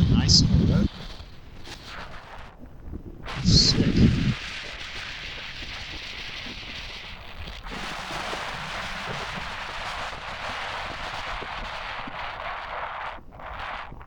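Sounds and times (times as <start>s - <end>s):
wind rushing over camera: 0.0s - 14.0s.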